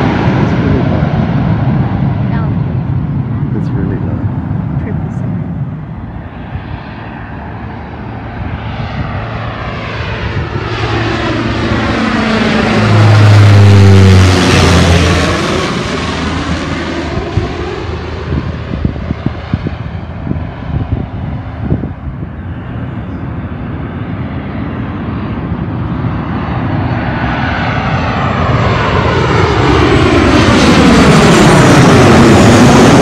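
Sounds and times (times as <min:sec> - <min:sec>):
jet airliner engine noise: 0:00.0 - 0:33.0
wind buffeting microphone: 0:00.0 - 0:33.0.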